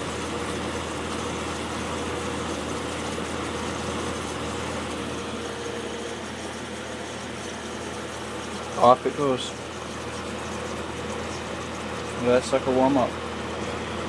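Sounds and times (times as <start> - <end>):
dehumidifier compressor humming: 0.0 - 14.0
dehumidifier fan noise: 0.0 - 14.0.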